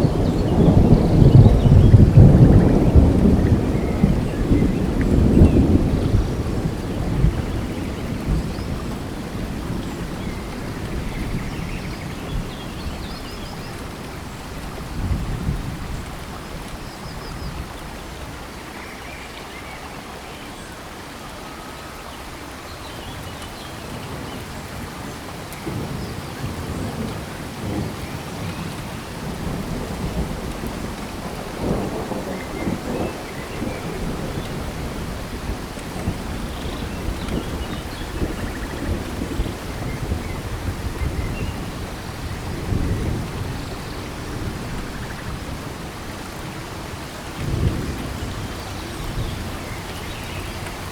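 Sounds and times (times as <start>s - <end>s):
low rolling thunder: 0.0s - 18.7s, 24.0s - 50.9s
steady rain falling: 0.0s - 50.9s.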